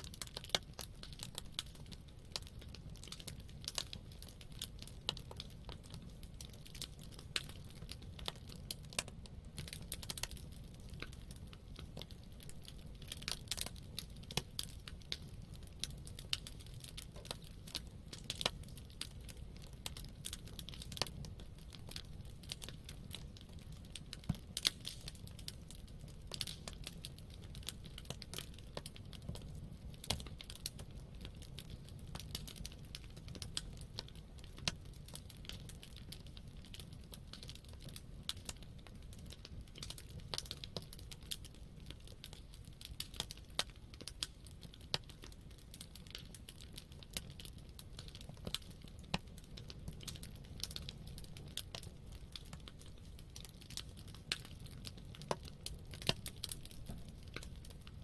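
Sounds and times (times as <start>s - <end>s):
campfire crackling and popping: 0.0s - 58.0s
low rumble of flames: 0.0s - 58.0s.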